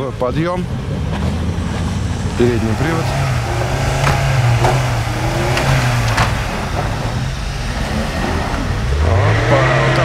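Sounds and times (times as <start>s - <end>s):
car engine running under load: 0.0s - 10.0s.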